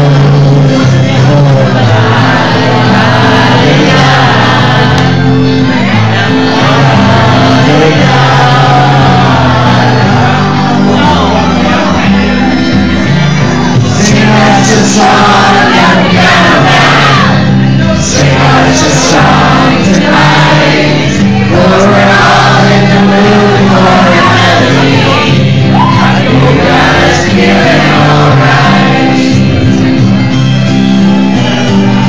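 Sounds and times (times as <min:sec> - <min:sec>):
person singing into microphone: 0:00.0 - 0:12.6, 0:13.7 - 0:30.0
loud backing music: 0:00.0 - 0:32.0.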